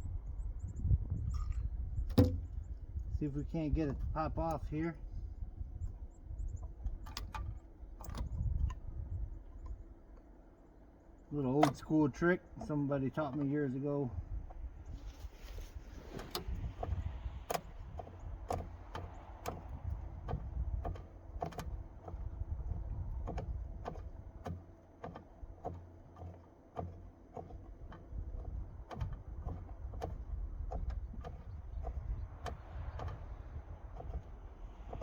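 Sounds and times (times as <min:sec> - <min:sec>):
steady low rumble: 0:00.0 - 0:35.0
sharp clicks and knocks: 0:01.4 - 0:04.7, 0:06.6 - 0:08.9, 0:11.4 - 0:35.0.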